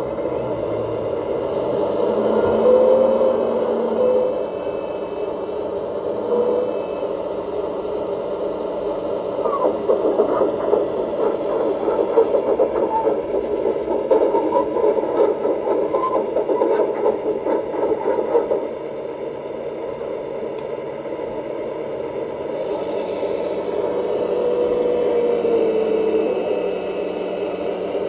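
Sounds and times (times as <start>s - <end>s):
hydraulic pump whirring: 0.0s - 28.0s
steady high whine: 0.0s - 28.0s.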